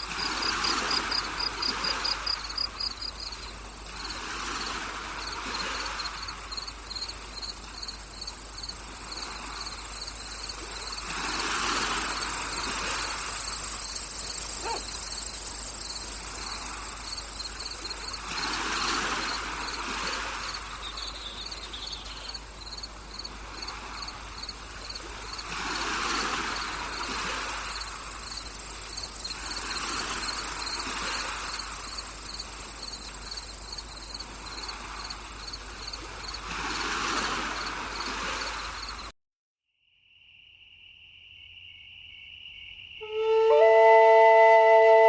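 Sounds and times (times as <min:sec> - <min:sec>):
crickets chirping: 0:00.0 - 0:39.1, 0:39.8 - 0:45.0.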